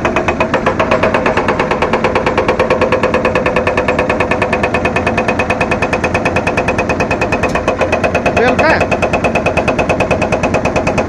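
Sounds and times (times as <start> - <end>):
hydraulic breaker hammering rock: 0.0 - 11.0.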